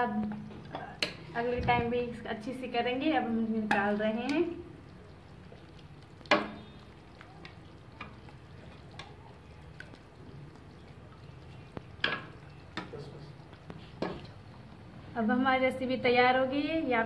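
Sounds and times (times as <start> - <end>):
gravy sloshing: 0.4 - 15.2.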